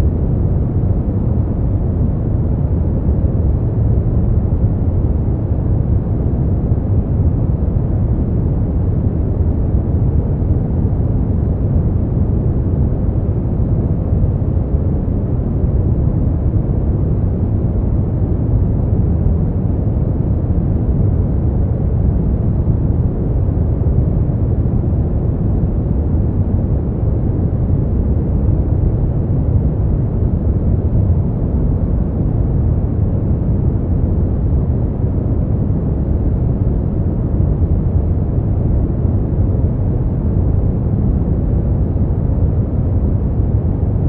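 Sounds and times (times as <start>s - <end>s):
deep rumbling brown noise: 0.0s - 44.0s.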